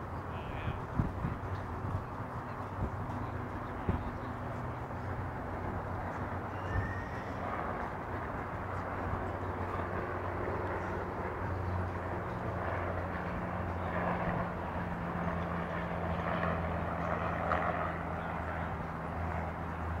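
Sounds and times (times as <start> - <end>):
outdoor noise: 0.0 - 20.0.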